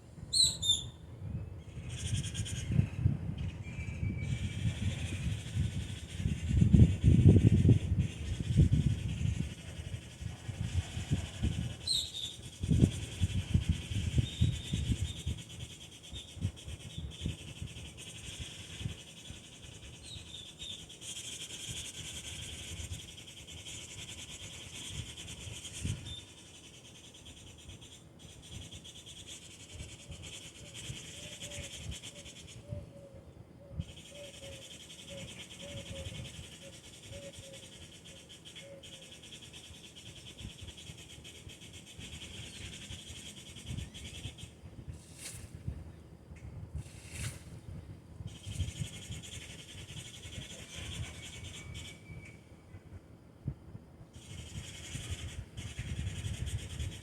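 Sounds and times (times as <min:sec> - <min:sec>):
repeated low bird notes: 0:00.0 - 0:57.0
insect drone: 0:01.6 - 0:57.0.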